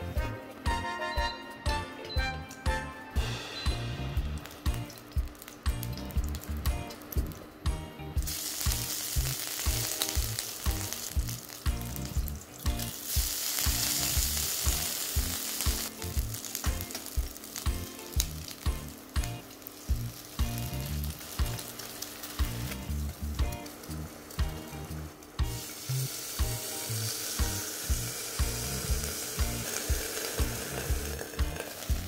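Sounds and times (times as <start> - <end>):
pepper sizzling in a hot pan: 0.0 - 32.0.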